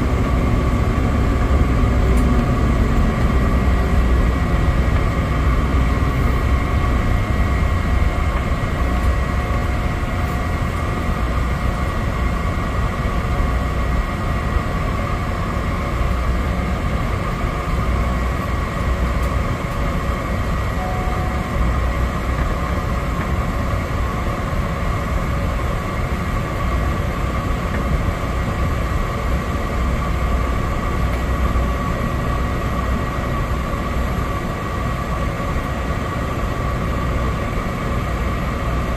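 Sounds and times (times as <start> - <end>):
high engine whine: 0.0 - 38.9
turboprop engine drone: 0.0 - 38.9.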